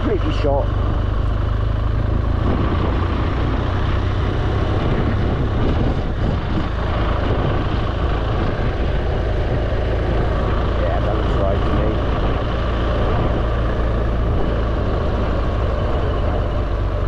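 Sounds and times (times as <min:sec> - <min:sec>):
motorcycle engine and tyres droning: 0:00.0 - 0:17.0
wind rushing: 0:02.0 - 0:17.0.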